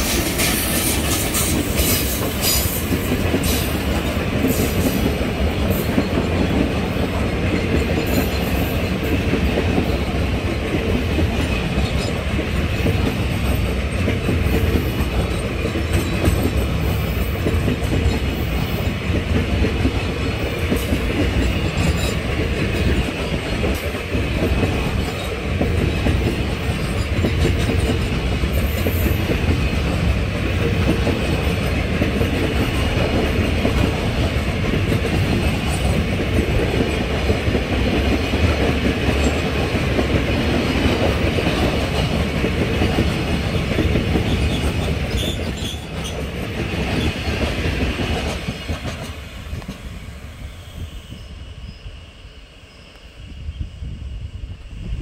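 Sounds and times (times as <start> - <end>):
wheels clacking over rail joints: 0.0 - 49.9
freight wagons rumbling on rails: 0.0 - 51.8.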